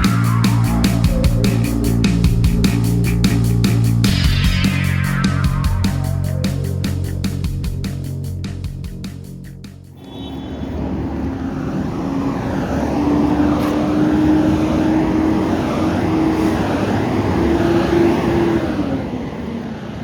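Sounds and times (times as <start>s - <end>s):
vehicle engine running: 0.0s - 18.8s.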